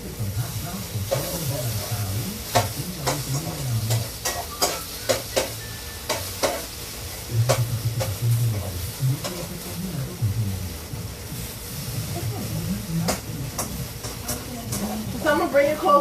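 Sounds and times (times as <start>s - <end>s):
tofu sizzling in a pan: 0.2s - 16.0s.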